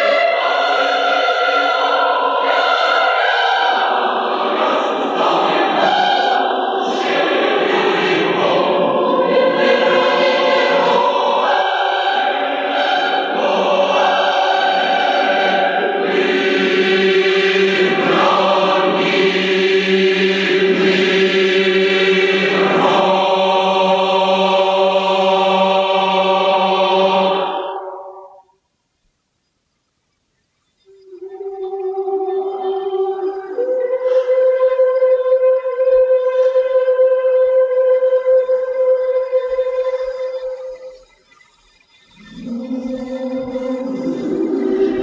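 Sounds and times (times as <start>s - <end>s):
choir singing sustained chords: 0.0s - 28.6s, 30.8s - 45.0s.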